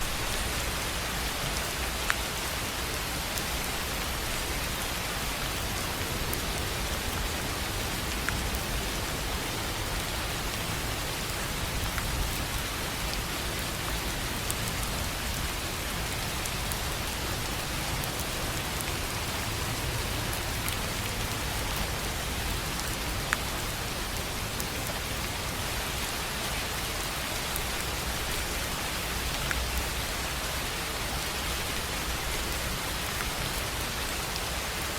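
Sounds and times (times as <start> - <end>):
rain on a tin roof: 0.0 - 34.9.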